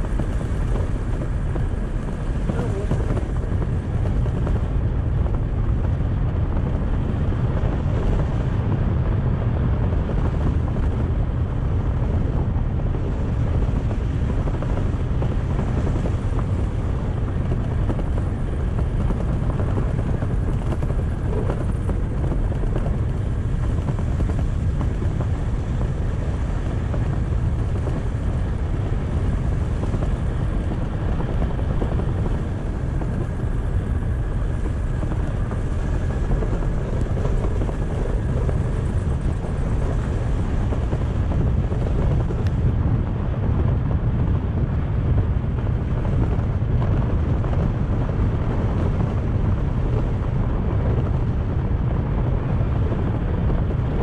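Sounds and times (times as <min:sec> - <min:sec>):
engine low rumble: 0:00.0 - 0:54.0.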